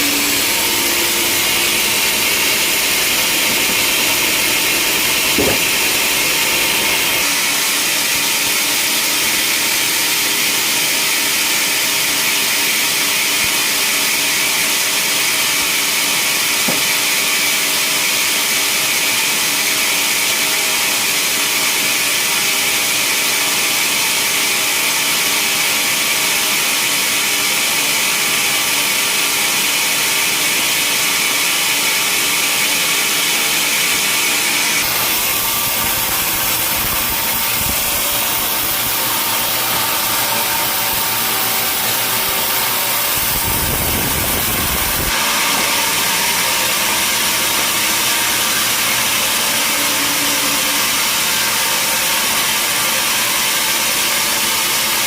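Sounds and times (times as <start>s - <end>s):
sawmill saw cutting log: 0.0s - 55.0s.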